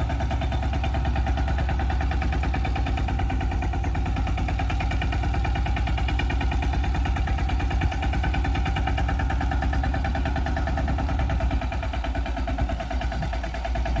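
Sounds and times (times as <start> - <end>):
diesel engine chugging: 0.0 - 14.0.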